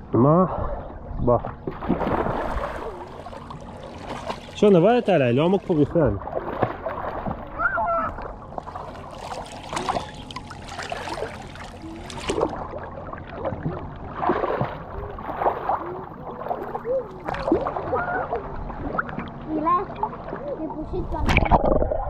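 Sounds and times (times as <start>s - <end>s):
water sloshing and splashing: 1.1s - 22.0s.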